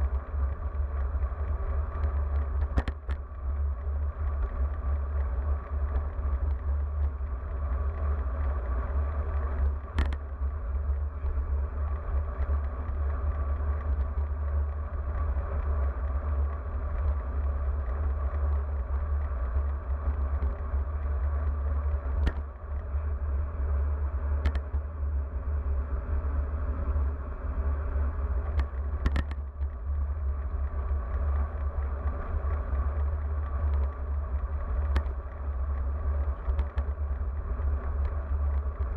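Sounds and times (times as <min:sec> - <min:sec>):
road and tyre noise: 0:00.0 - 0:38.9
wind rumbling over microphone: 0:00.0 - 0:38.9.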